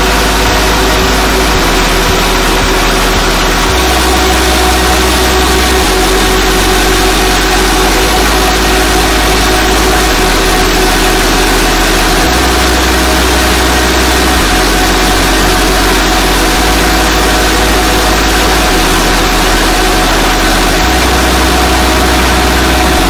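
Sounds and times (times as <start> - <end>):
grain mill and diesel engine running: 0.0 - 23.0.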